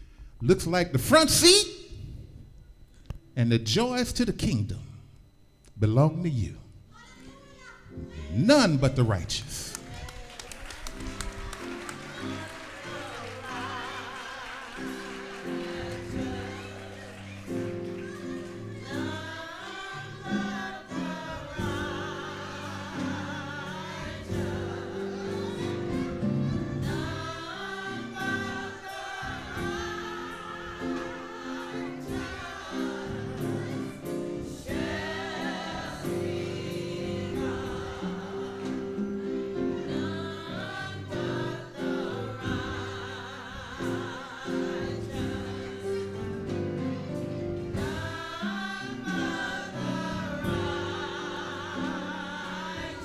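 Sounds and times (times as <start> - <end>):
gospel choir singing: 8.0 - 53.0.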